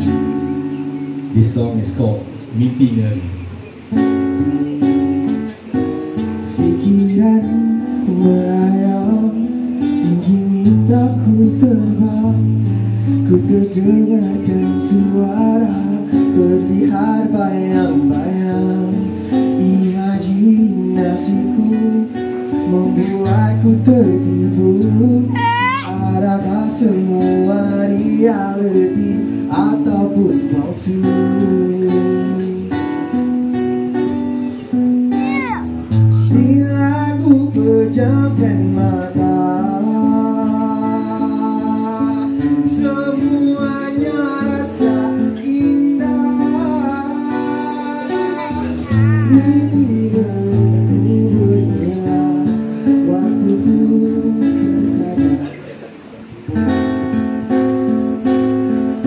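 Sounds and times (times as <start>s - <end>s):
acoustic guitar: 0.0s - 59.0s
man singing: 1.3s - 34.1s, 34.7s - 57.5s.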